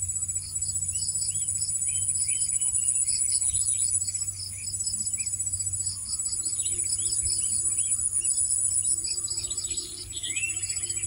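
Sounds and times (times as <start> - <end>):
insect chirps: 0.0 - 11.0
insects trilling: 0.0 - 11.0
low steady hum: 0.0 - 11.0.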